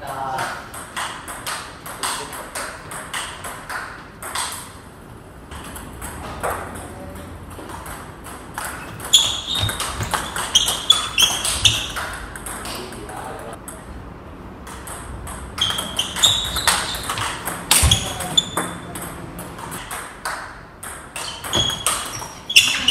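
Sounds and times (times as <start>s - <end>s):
table tennis rally: 0.0s - 22.9s
ball bouncing: 0.4s - 4.8s, 5.5s - 13.9s, 14.6s - 22.9s.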